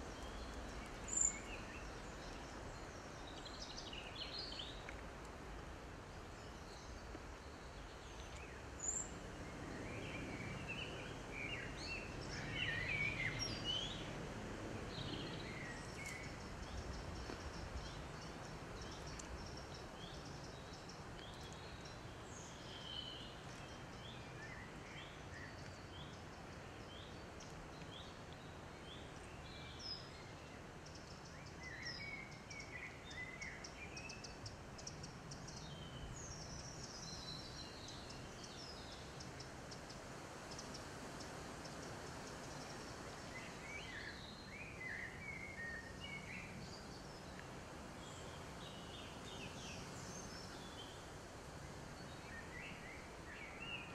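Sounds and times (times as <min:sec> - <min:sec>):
birds singing: 0:00.0 - 0:05.0, 0:06.1 - 0:47.4, 0:51.8 - 0:53.9
faint background hiss: 0:00.0 - 0:53.9.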